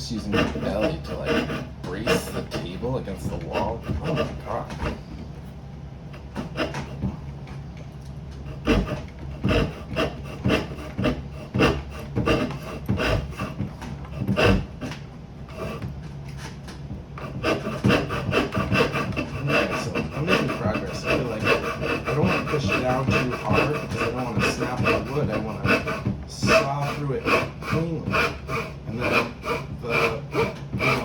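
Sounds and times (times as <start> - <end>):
hand saw cutting wood: 0.0 - 5.1, 6.1 - 7.2, 8.4 - 16.6, 17.2 - 31.0.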